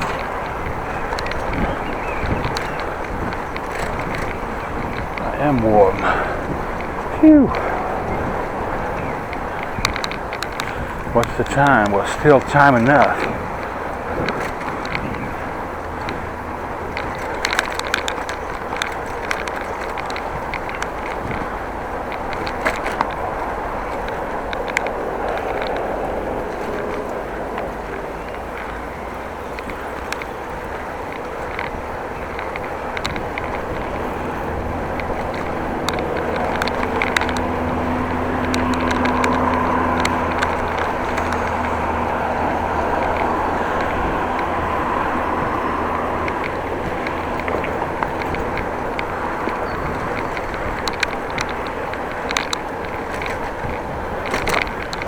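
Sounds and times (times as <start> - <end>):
bicycle wind and road noise: 0.0 - 55.0
light clicks and rattles: 0.0 - 55.0
vehicle engine hum: 0.0 - 55.0.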